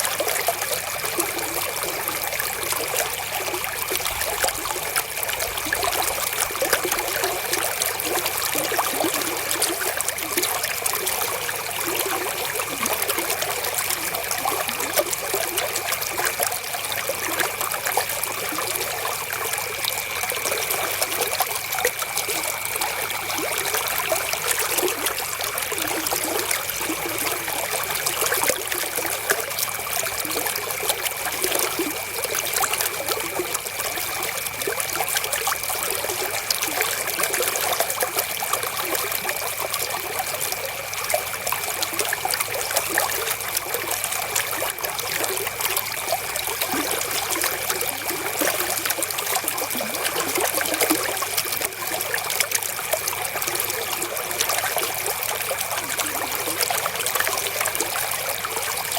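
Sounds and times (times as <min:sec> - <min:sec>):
river water flowing over stones: 0:00.0 - 0:58.9.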